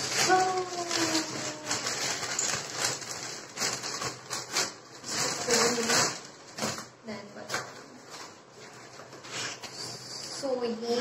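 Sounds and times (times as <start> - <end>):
plastic mailer crinkling: 0.0 - 10.0.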